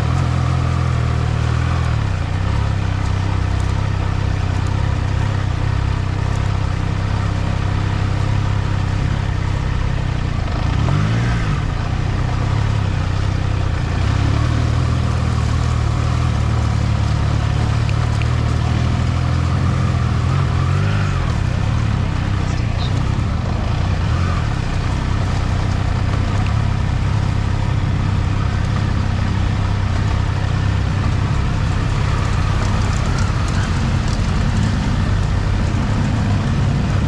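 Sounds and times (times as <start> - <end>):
motorcycle engine at low revs: 0.0 - 37.0.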